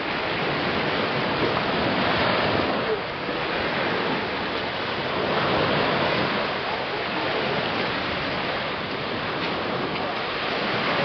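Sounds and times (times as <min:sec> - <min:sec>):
waves breaking: 0:00.0 - 0:11.0.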